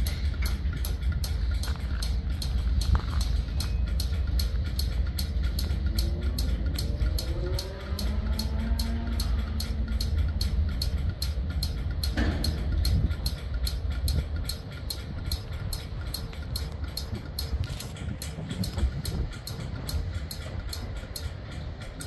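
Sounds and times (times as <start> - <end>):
freight train rumbling past: 0.0 - 22.0
steady ticking clicks: 0.0 - 22.0.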